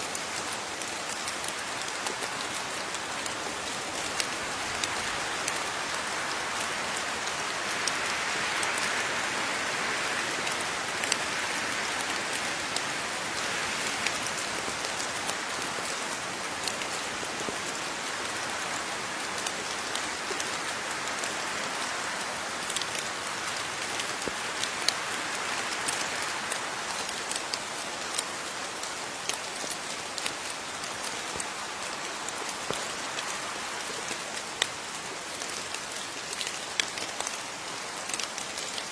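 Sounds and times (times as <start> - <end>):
raindrops ticking on surface: 0.0 - 38.9
steady rain hiss: 0.0 - 38.9.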